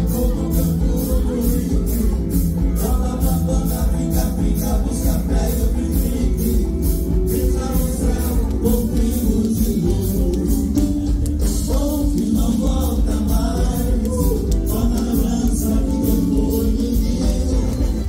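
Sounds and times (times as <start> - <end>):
men singing into microphones: 0.0 - 18.0.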